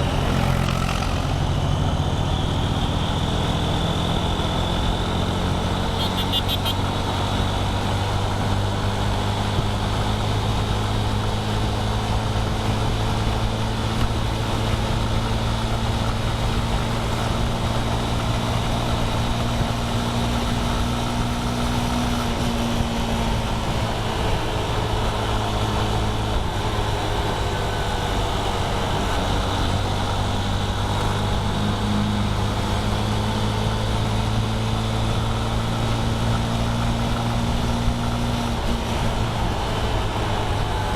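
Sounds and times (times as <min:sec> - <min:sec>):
road and wind noise: 0:00.0 - 0:40.9
vehicle engine drone: 0:00.0 - 0:40.9.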